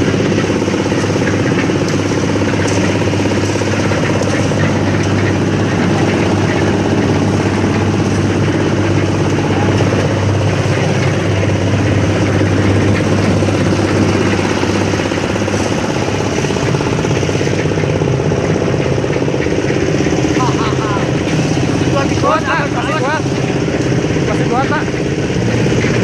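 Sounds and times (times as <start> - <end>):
concrete mixer engine running: 0.0 - 26.0.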